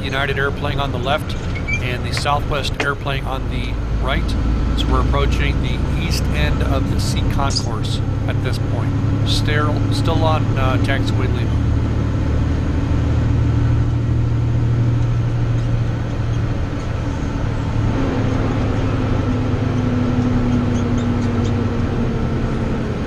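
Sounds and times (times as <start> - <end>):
truck engine drone in cab: 0.0 - 23.0.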